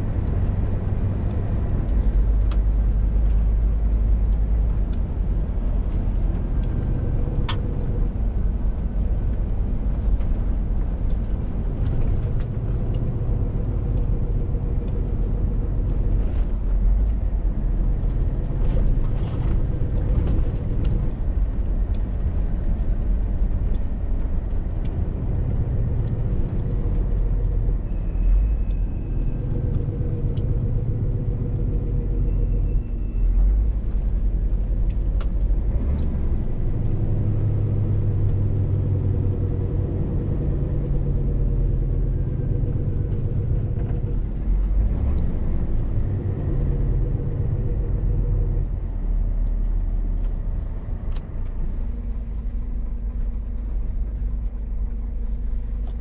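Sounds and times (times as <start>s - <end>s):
lorry diesel engine pulling: 0.0s - 56.0s
road rumble: 0.0s - 56.0s.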